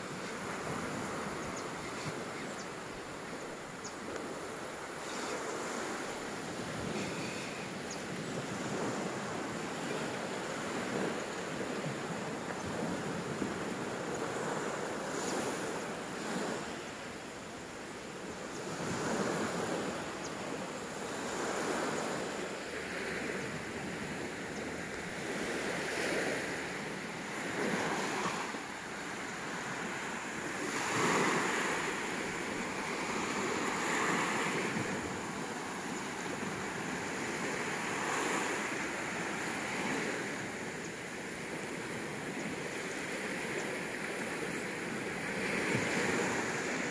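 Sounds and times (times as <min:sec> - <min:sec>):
small waves washing on sand: 0:00.0 - 0:46.9.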